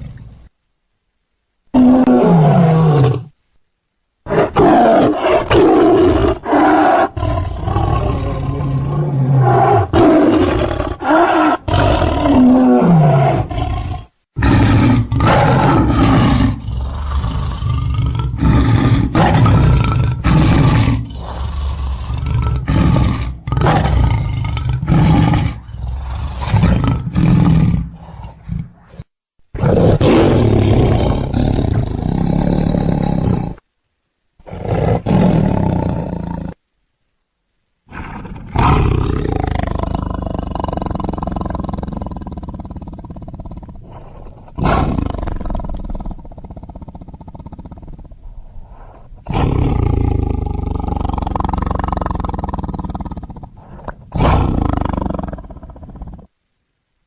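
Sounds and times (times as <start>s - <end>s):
tiger roaring: 1.7s - 3.4s, 4.3s - 33.6s, 34.4s - 36.6s, 37.9s - 56.3s.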